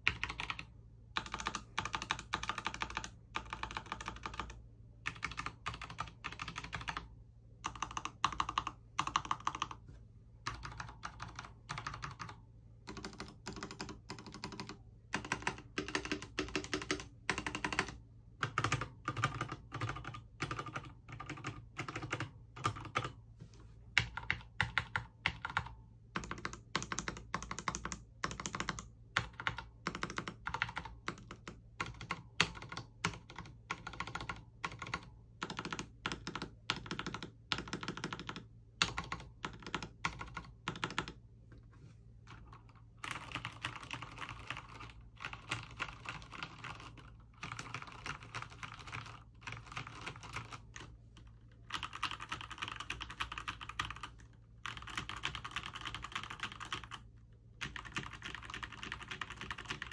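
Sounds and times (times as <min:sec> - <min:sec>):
mechanical keyboard typing: 0:00.0 - 0:09.8, 0:10.4 - 0:23.2, 0:24.0 - 0:41.2, 0:42.3 - 0:59.9.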